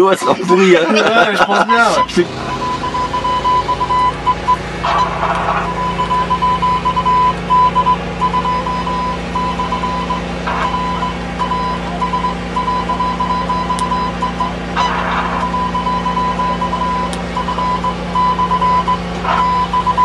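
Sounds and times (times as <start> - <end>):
low machine hum: 0.3 - 20.0
high-pitched electronic beeps: 1.7 - 20.0.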